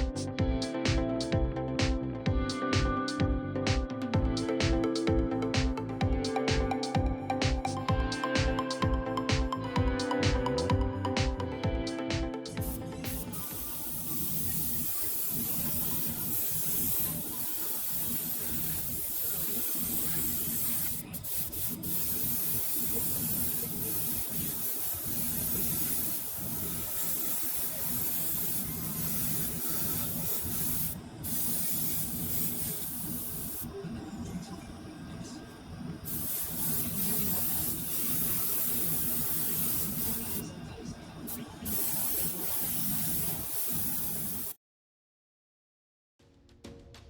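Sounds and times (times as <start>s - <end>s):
spray paint hissing: 3.7s - 33.8s, 36.0s - 40.5s, 41.2s - 44.6s.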